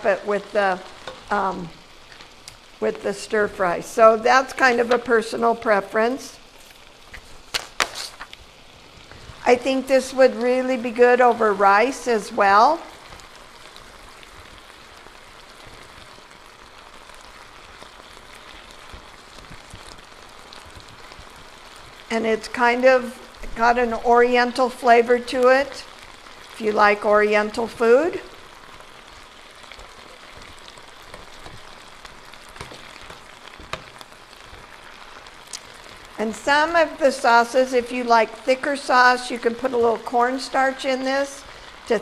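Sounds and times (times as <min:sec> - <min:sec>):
vegetables sizzling in skillet: 0:00.0 - 0:42.0.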